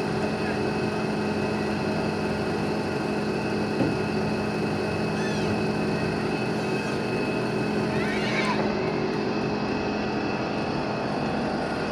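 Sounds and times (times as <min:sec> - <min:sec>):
boat engine droning: 0:00.0 - 0:11.9.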